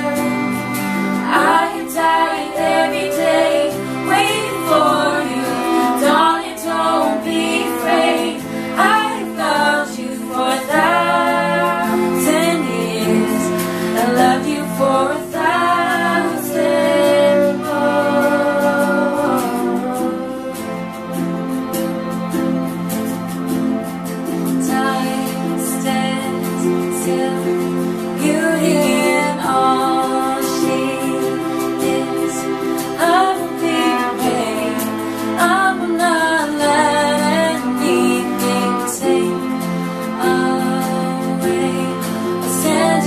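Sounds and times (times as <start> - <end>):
voices singing slow song: 0.0 - 21.8, 24.5 - 43.0
instrumental accompaniment: 0.0 - 43.0.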